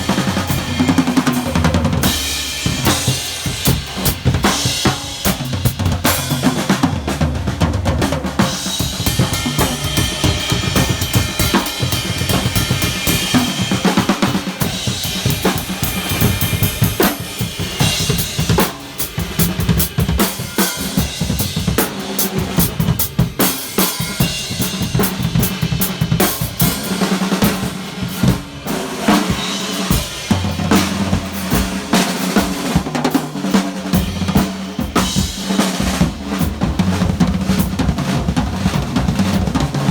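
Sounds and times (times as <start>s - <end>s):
drum kits playing fast: 0.0s - 39.9s.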